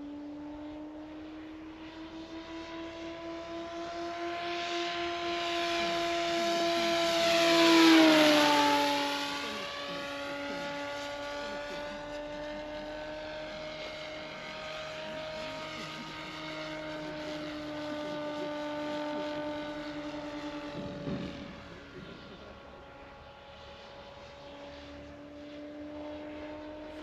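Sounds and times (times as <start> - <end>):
model plane motor and propeller: 0.0 - 27.0.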